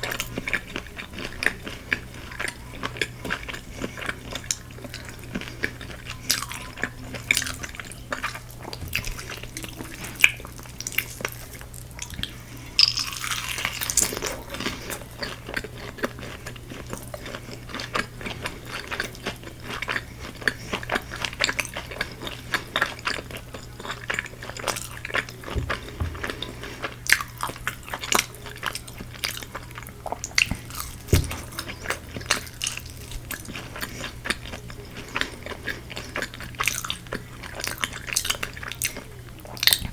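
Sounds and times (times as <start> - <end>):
crunching bites and chewing: 0.0 - 39.9.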